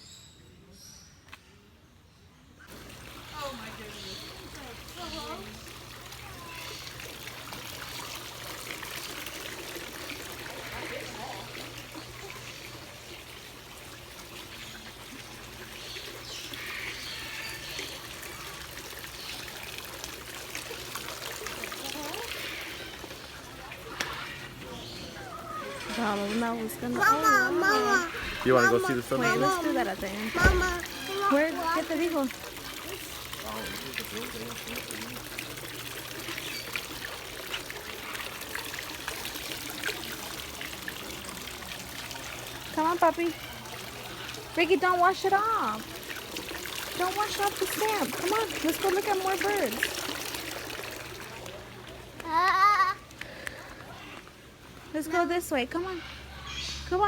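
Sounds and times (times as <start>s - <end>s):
water trickling: 2.7s - 57.0s.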